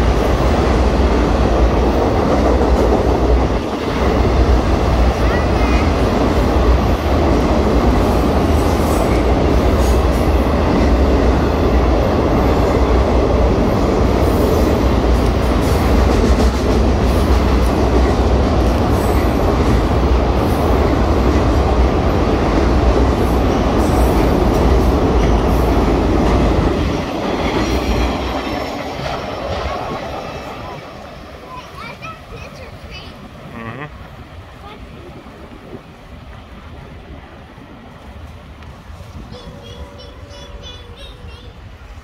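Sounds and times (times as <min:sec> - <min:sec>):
freight cars rumbling on rails: 0:00.0 - 0:42.0.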